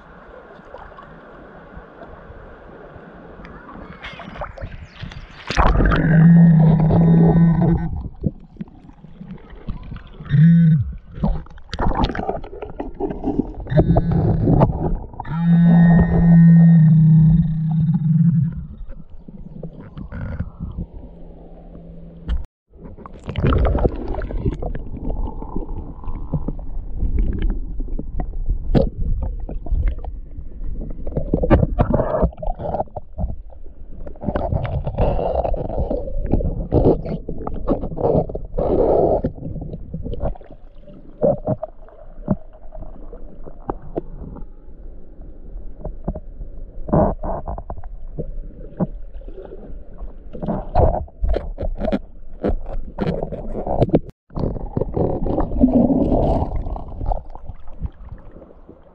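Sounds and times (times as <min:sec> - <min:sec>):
muffled underwater water rumbling: 0:00.0 - 0:58.9.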